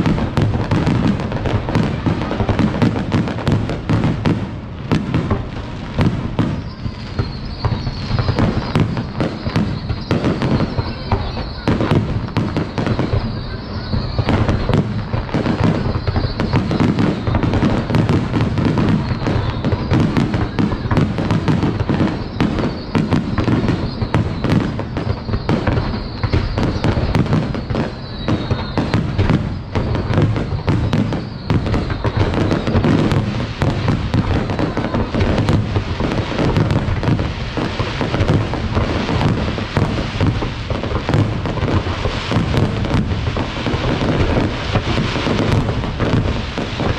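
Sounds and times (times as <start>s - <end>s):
firework bursts and crackles: 0.0s - 46.9s.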